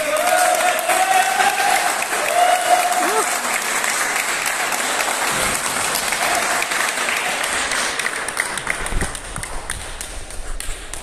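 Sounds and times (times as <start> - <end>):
group of people clapping: 0.0 - 11.0.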